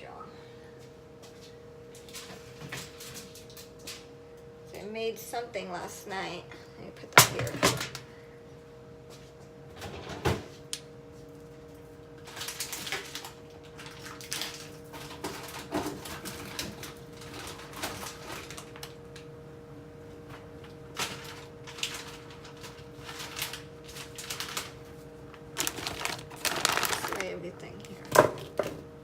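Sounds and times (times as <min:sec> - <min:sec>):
refrigerator hum: 0:00.0 - 0:29.0.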